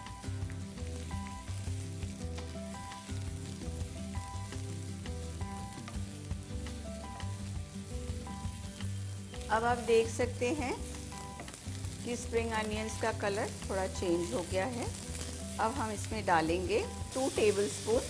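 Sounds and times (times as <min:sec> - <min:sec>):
onions sizzling in oil: 0:00.0 - 0:18.0
soft background music: 0:00.0 - 0:18.0.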